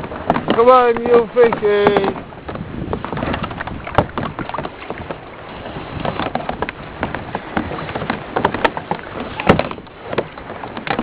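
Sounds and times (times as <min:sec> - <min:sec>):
water lapping against kayak hull: 0:00.0 - 0:11.0.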